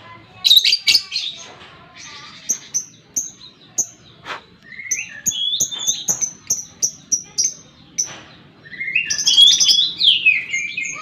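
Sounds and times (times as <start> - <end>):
bird harsh chattering: 0.4 - 11.0.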